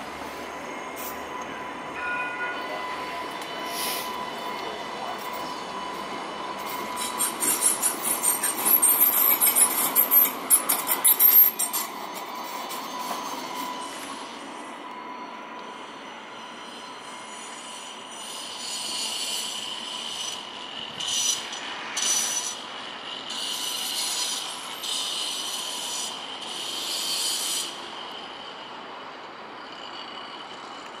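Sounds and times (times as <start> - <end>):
steady high whine: 0.0 - 31.0
tram wheels squealing on rails: 0.0 - 31.0.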